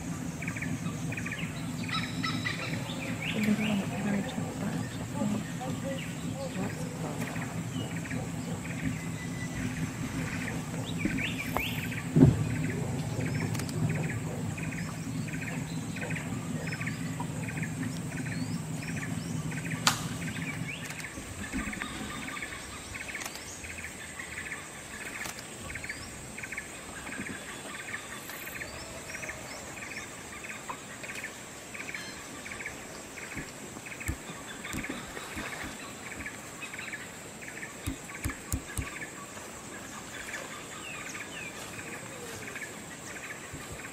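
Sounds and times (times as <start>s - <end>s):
low steady hum: 0.0s - 43.9s.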